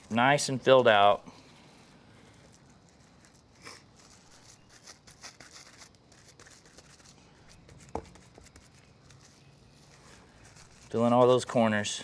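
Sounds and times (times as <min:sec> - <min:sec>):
plastic cling wrap crinkling: 0:00.0 - 0:11.6
soft handling noises: 0:00.0 - 0:12.0.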